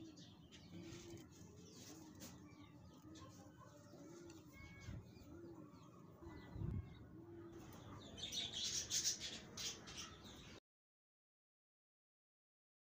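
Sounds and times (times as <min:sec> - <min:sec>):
small birds chirping rapidly: 0:00.0 - 0:10.6.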